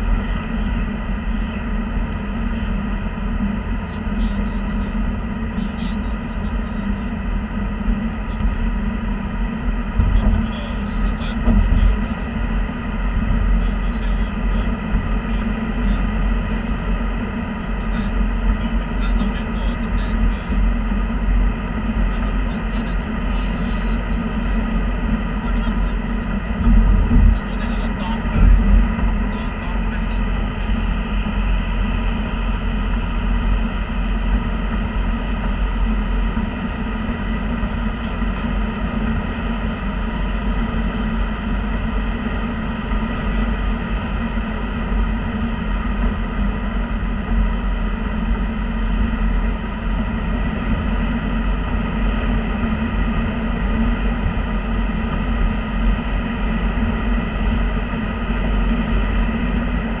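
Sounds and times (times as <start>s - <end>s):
car cabin road and engine rumble: 0.0s - 60.0s.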